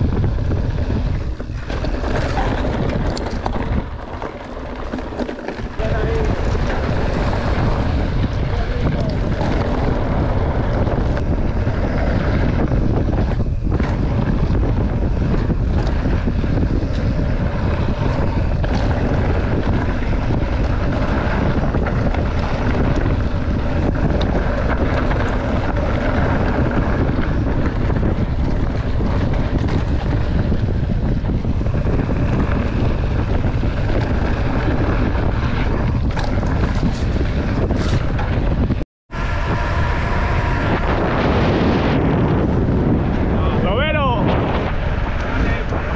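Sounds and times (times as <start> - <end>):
bike knocks and rattles: 0.0 - 38.8
wind buffeting microphone: 0.0 - 45.9.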